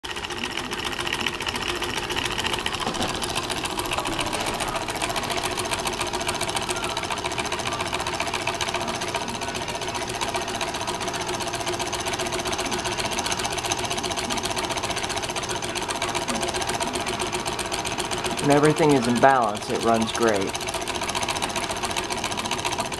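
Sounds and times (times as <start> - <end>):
engine mechanical clatter: 0.0 - 22.9.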